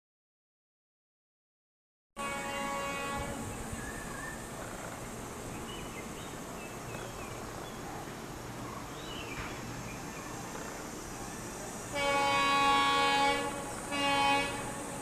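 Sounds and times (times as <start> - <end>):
distant locomotive rumble: 2.2 - 15.0.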